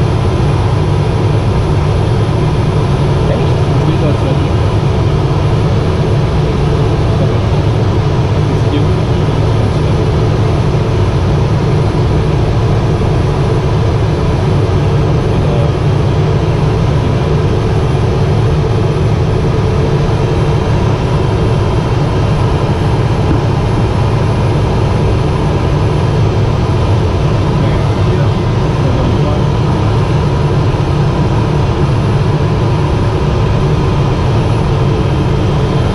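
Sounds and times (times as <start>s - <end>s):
turboprop engine and propeller drone: 0.0s - 35.9s.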